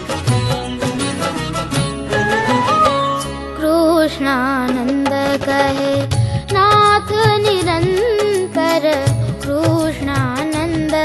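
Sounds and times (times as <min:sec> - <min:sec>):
devotional melody with vibrato: 0:00.0 - 0:11.0.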